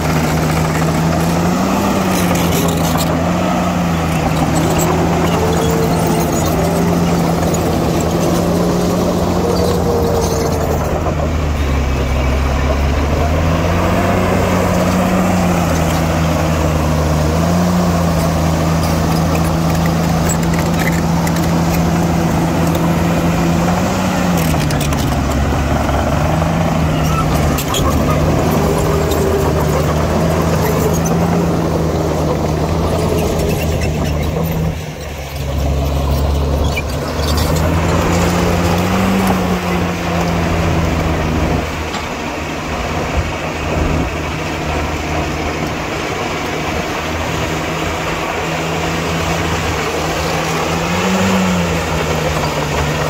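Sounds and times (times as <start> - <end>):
diesel engine of heavy machinery: 0.0 - 53.0.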